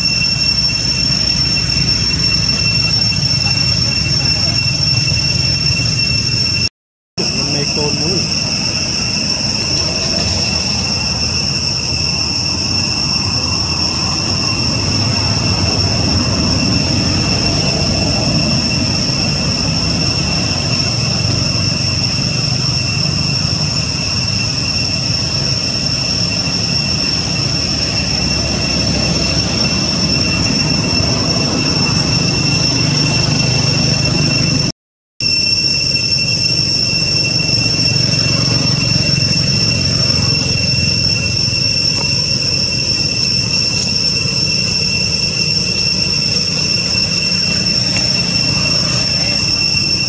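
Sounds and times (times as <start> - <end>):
cicadas droning: 0.0 - 50.0.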